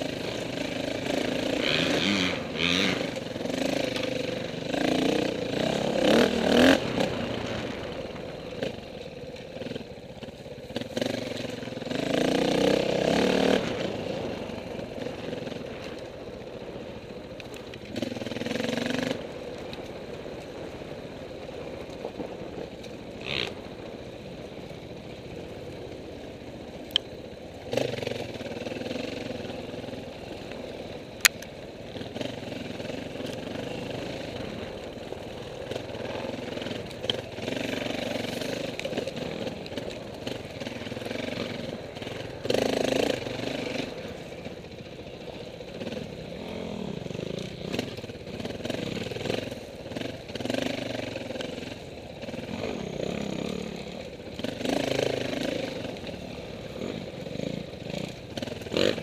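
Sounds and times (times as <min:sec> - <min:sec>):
dirt bike engines revving past: 0:00.0 - 0:59.0.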